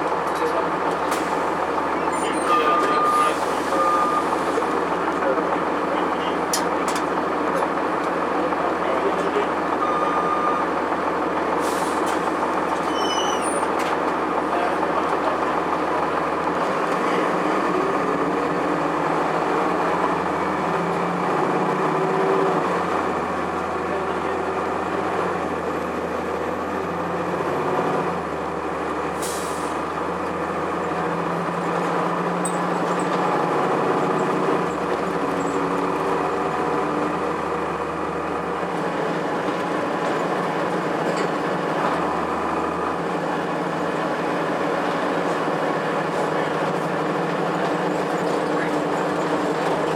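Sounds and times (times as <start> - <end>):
bus diesel engine droning: 0.0 - 49.9
road noise: 0.0 - 49.9.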